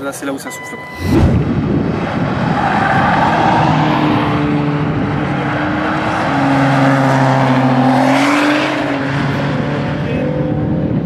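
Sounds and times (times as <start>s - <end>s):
another sports car: 0.4s - 11.0s
sports car engine running hard: 0.8s - 11.0s.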